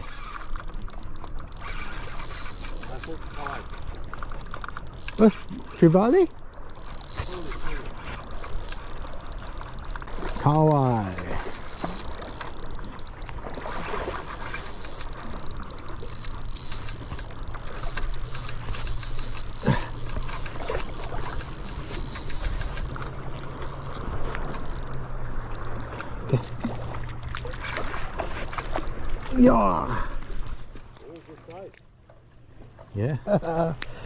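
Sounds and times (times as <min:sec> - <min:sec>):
fishing reel drag buzzing: 0:00.0 - 0:25.9, 0:27.3 - 0:30.6.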